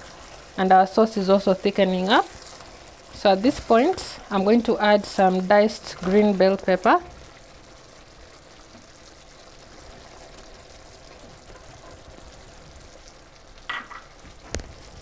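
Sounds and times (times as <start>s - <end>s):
sauce simmering with quiet sizzle: 0.0s - 15.0s.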